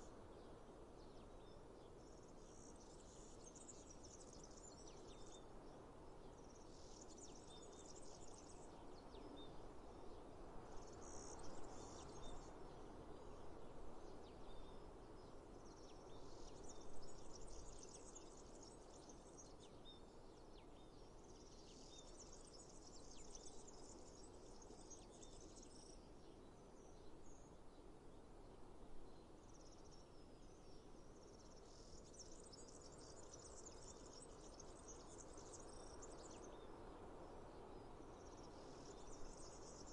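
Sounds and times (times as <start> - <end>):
low outdoor hiss: 0.0 - 39.9.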